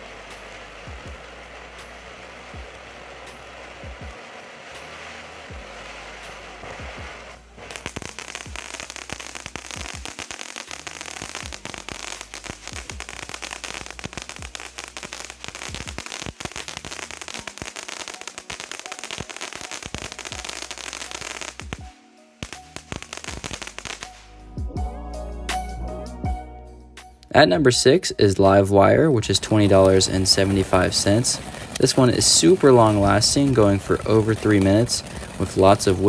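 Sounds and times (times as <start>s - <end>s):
firework crackle: 0.0s - 24.4s, 27.8s - 36.0s
firework fountain hissing: 0.0s - 24.4s, 29.2s - 36.0s.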